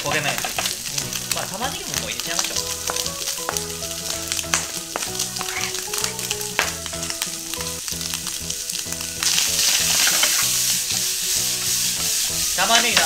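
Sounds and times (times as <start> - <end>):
food sizzling in oil: 0.0 - 13.0
spatula stirring in pan: 0.0 - 13.0.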